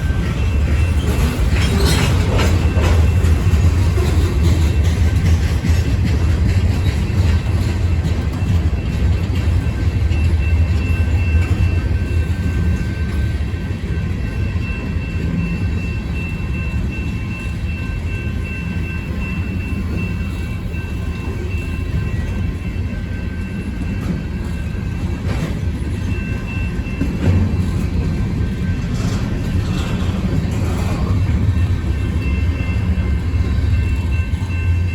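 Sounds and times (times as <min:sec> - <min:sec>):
freight train cars rumbling: 0:00.0 - 0:34.9.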